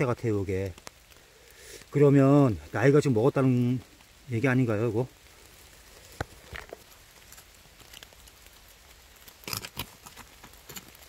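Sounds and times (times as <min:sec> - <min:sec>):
faint rain patter: 0:00.0 - 0:11.0.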